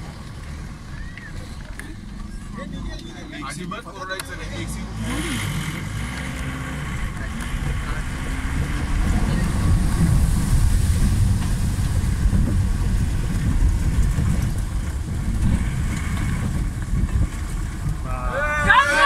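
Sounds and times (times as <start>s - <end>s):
engine rumble: 0.0s - 19.0s
water rushing: 0.0s - 19.0s.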